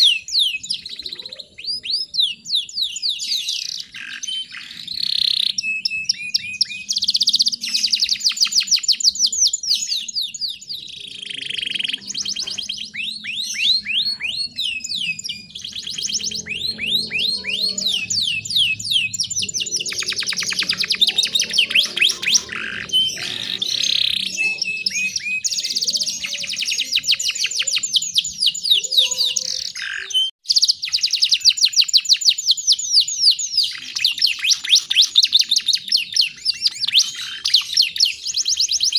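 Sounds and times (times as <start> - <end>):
canary singing in rapid trills: 0.0 - 38.9.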